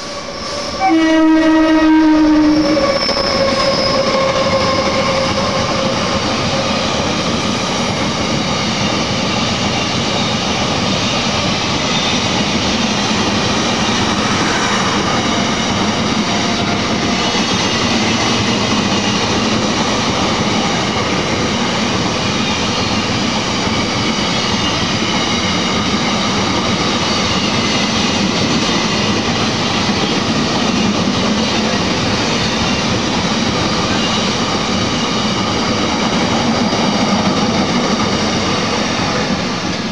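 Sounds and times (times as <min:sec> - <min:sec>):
train wheels running over rails: 0:00.0 - 0:39.9.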